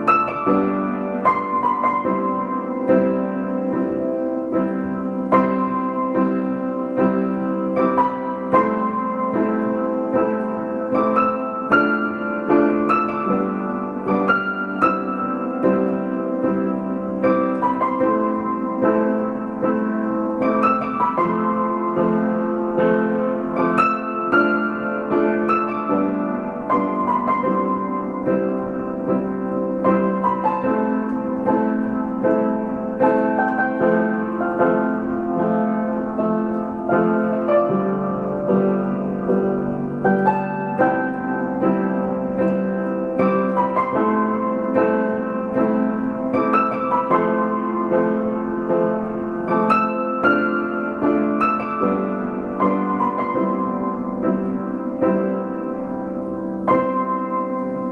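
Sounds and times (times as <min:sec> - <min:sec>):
solo piano piece: 0:00.0 - 0:57.9.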